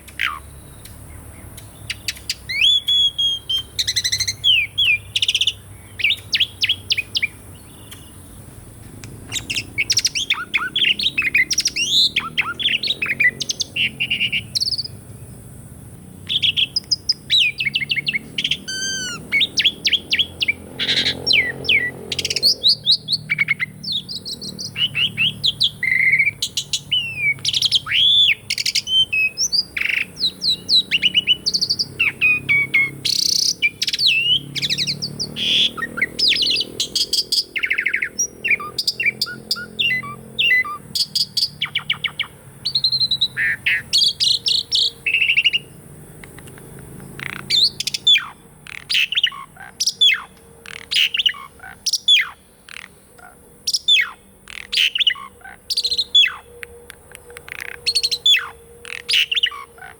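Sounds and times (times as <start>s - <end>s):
starling singing whistles and chirps: 0.0s - 15.2s, 16.2s - 59.9s.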